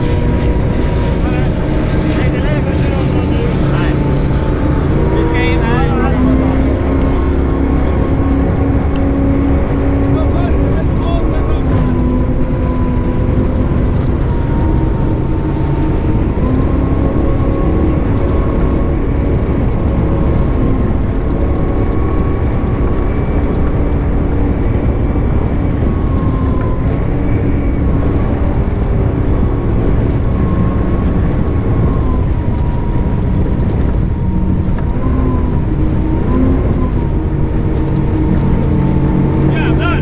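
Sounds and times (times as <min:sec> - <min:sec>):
powerboat engines droning: 0:00.0 - 0:40.0
rush of wind and water: 0:00.0 - 0:40.0.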